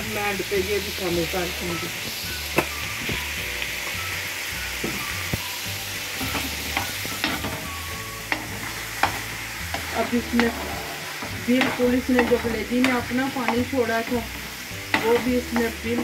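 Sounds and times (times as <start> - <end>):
liver sizzling in a pan: 0.0 - 16.0.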